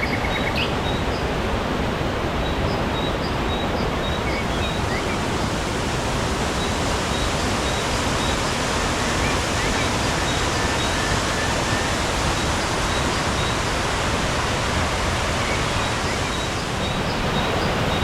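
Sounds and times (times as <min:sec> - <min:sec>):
waterfall roar: 0:00.0 - 0:18.0.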